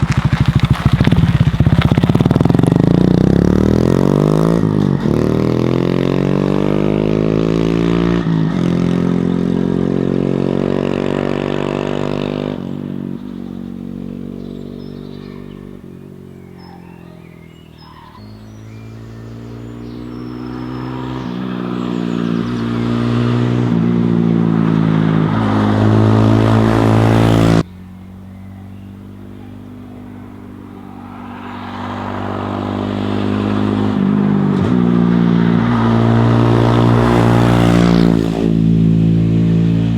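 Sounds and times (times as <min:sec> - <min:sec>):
motorcycle riding past: 0:00.0 - 0:39.9.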